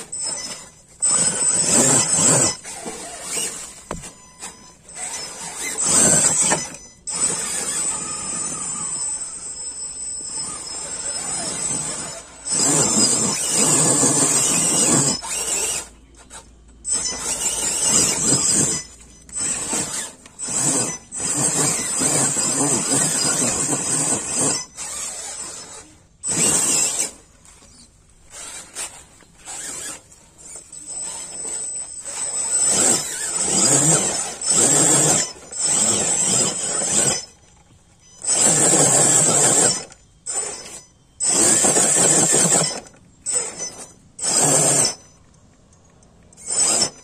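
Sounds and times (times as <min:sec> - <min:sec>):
electric motor whining: 0:00.0 - 0:37.6, 0:38.2 - 0:45.1.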